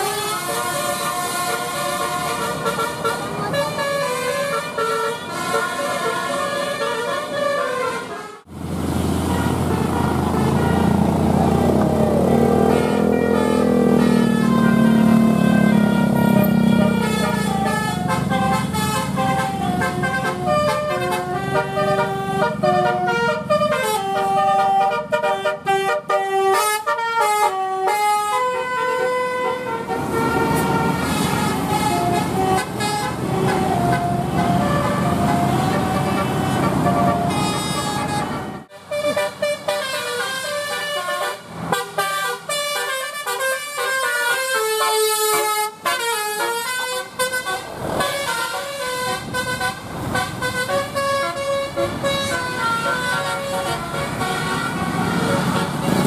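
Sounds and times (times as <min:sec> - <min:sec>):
multi-tone air horn tunes: 0:00.0 - 0:08.5, 0:09.3 - 0:11.0, 0:11.6 - 0:56.0
bus engine: 0:00.0 - 0:56.0
traffic noise: 0:00.0 - 0:56.0.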